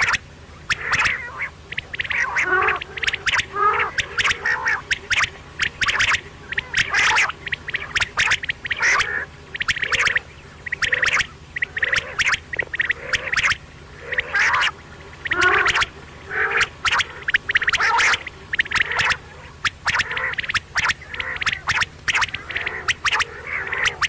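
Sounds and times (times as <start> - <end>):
faint low hum: 0.0 - 24.0
quail calling: 0.0 - 24.0.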